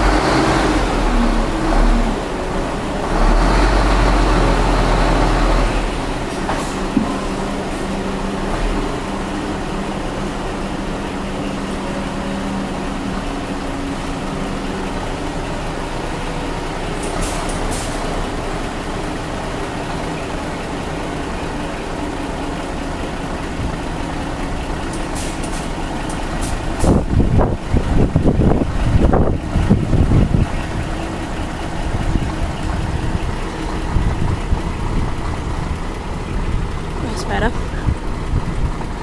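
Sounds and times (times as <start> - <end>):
diesel truck engine running: 0.0 - 39.0.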